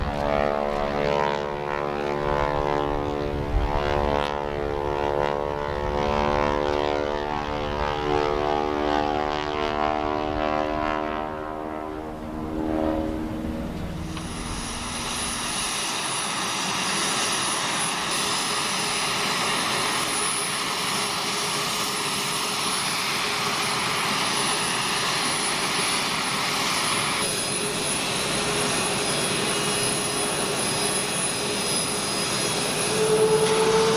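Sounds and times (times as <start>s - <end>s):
aircraft engines droning hum: 0.0s - 33.9s
jet roar with high whine: 0.0s - 33.9s.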